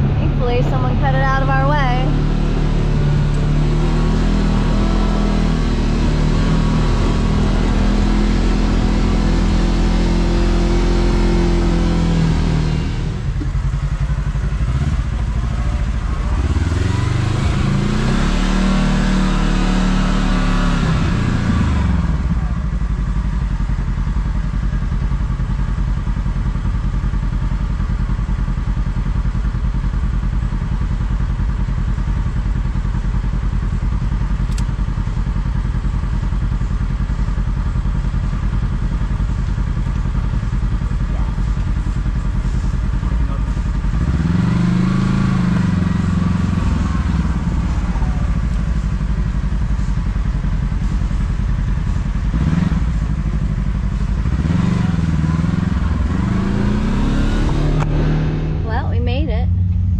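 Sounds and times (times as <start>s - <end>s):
utility vehicle engine revving: 0.0s - 22.8s, 33.9s - 59.9s.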